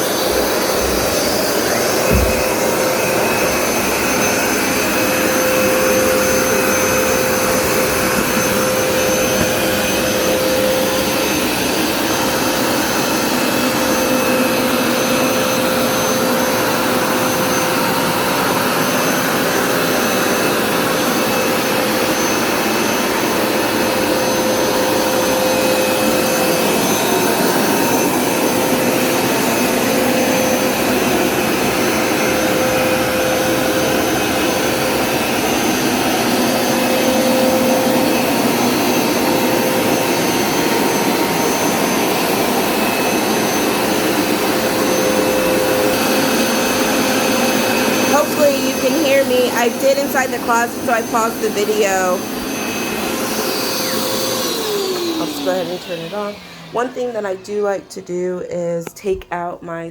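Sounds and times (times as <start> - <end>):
carpet cleaner motor whine: 0.0 - 57.9.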